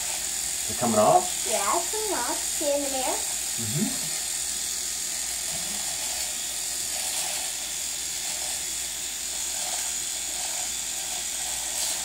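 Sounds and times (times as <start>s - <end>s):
electric shaver cutting hair: 0.0s - 12.0s.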